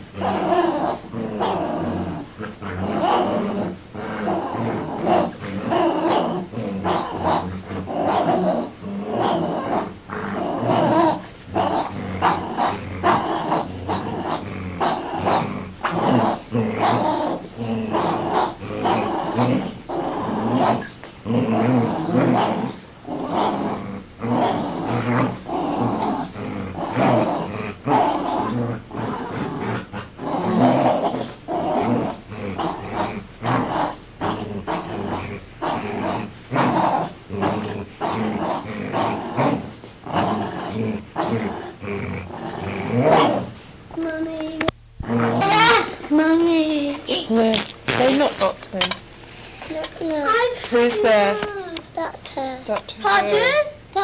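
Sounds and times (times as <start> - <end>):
dog growling: 0.0 - 49.0, 49.6 - 54.0.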